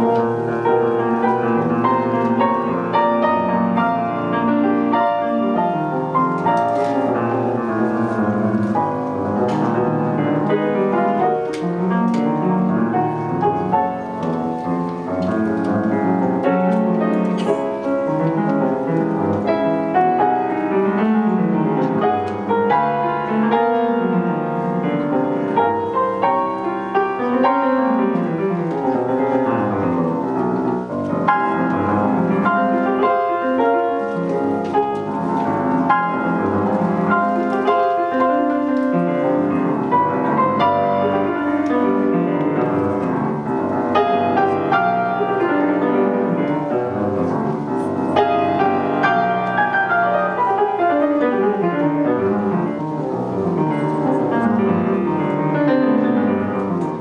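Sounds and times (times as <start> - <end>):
solo grand piano piece: 0.0 - 57.0.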